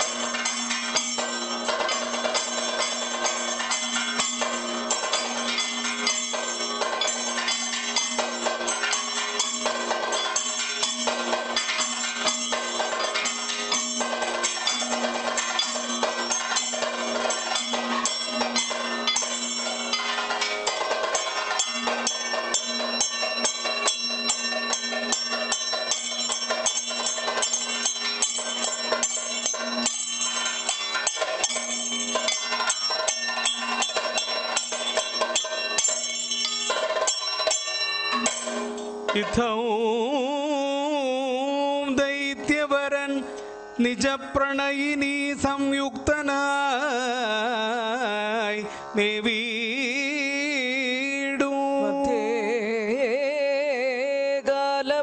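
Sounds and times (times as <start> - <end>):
hand cymbals ringing: 0.0 - 53.1.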